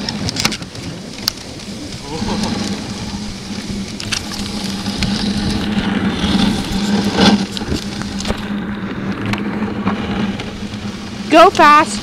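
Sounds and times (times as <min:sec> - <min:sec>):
sled runners scraping on snow: 0:00.0 - 0:12.0.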